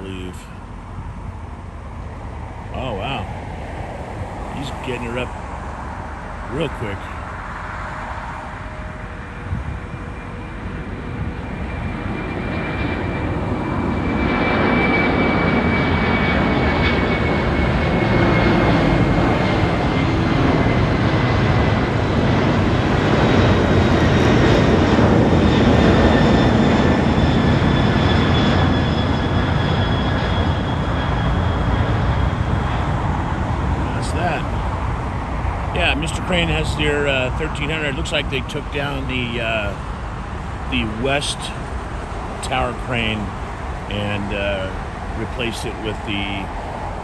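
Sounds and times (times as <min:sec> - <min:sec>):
jet engines rushing at takeoff: 0:00.0 - 0:47.0.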